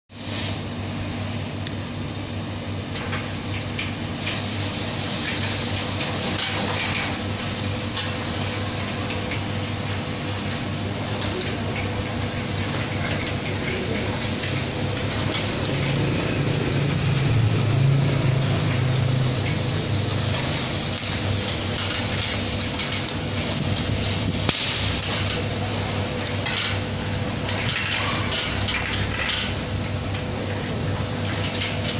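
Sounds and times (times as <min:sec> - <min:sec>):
electric gate motor humming: 0:01.0 - 0:31.9.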